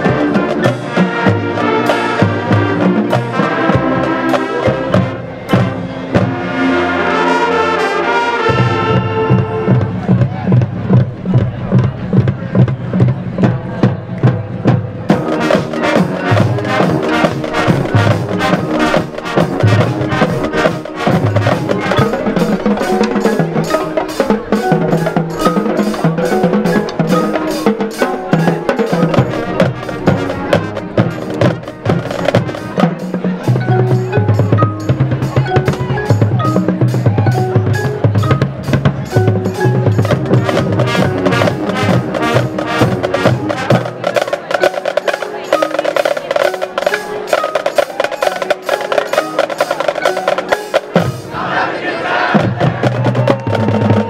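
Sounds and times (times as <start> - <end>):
marching band playing: 0.0 - 54.0
rapid mallet keyboard notes: 0.0 - 54.0
snare drumline strokes: 0.0 - 54.0.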